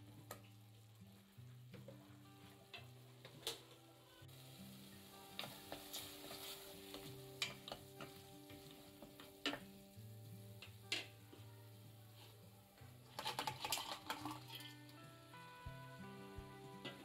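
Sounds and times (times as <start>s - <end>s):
quiet background music: 0.0s - 17.0s
vegetables sizzling in a pot: 0.0s - 17.0s.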